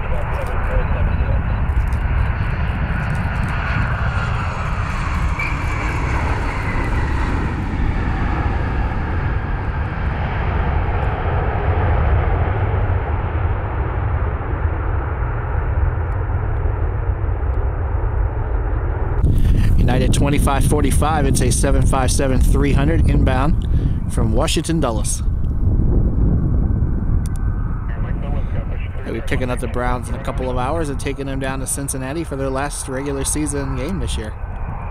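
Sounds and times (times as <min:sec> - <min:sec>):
jet engine rumble and whine: 0:00.0 - 0:34.9.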